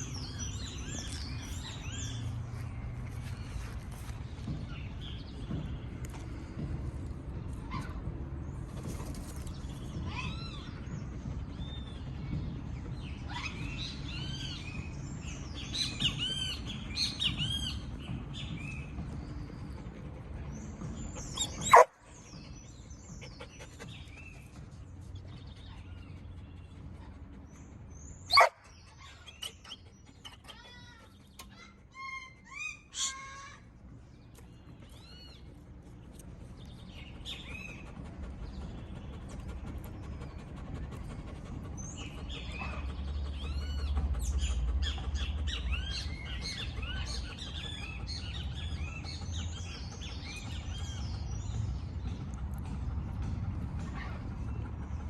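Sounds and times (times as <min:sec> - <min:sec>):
wild birds chirping and singing: 0:00.0 - 0:55.0.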